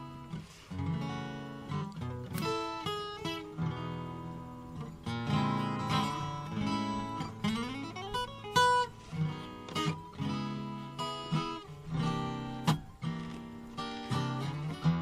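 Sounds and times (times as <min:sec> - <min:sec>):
solo guitar: 0:00.0 - 0:15.0.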